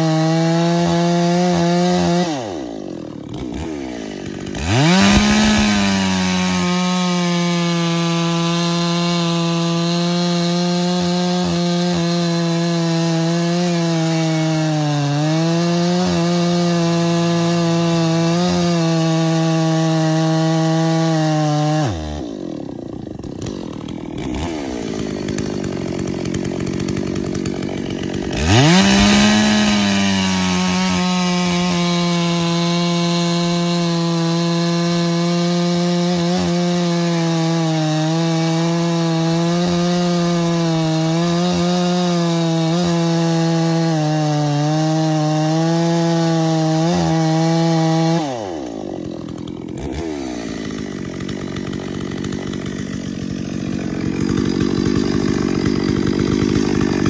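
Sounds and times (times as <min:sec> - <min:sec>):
chainsaw revving and cutting log: 0:00.0 - 0:57.0.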